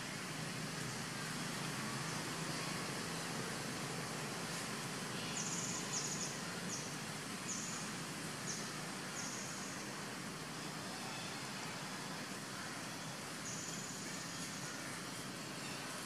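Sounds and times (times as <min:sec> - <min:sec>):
steady forest hiss: 0:00.0 - 0:16.0.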